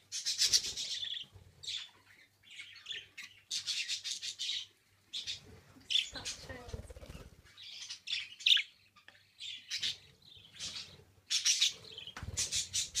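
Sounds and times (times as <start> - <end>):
budgerigars chirping: 0.1 - 6.6, 7.6 - 13.0.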